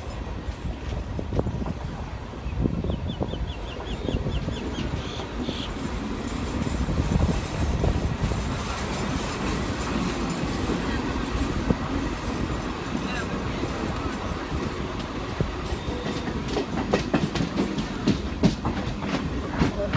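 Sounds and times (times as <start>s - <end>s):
train rumble from inside coach: 0.0s - 19.9s.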